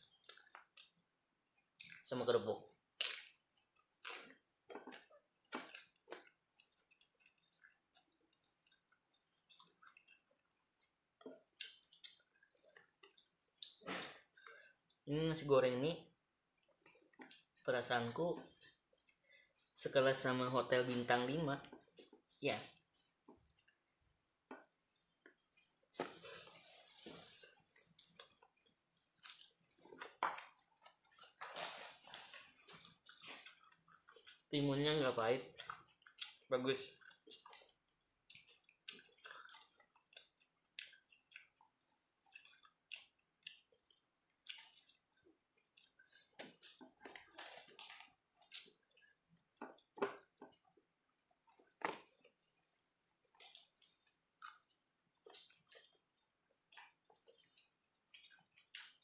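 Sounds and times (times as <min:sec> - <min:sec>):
person chewing food: 0:00.0 - 0:02.1, 0:02.7 - 0:15.1, 0:16.2 - 0:19.8, 0:21.6 - 0:34.6, 0:35.4 - 0:59.0.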